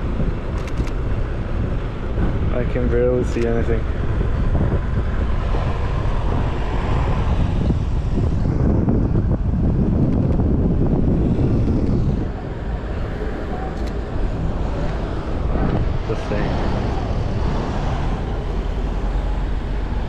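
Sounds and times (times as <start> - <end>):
road traffic noise: 0.0 - 20.0
wind buffeting microphone: 0.0 - 20.0.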